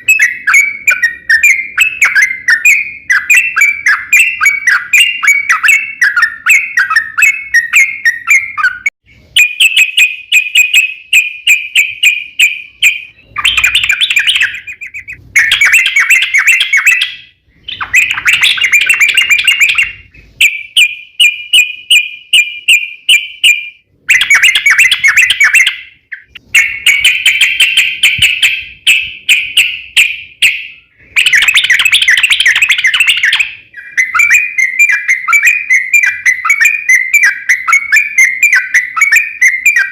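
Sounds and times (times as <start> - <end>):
bird singing bubbling notes: 0.0 - 21.6, 22.3 - 39.9.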